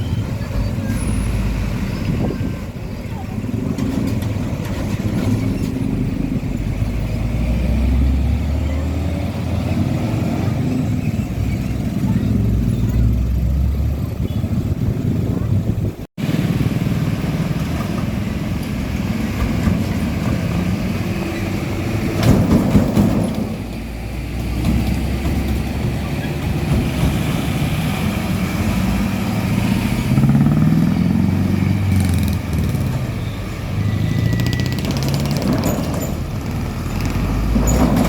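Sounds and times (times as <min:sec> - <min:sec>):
truck engines passing: 0:00.0 - 0:38.0
vehicles accelerating and shifting gear: 0:00.0 - 0:38.0.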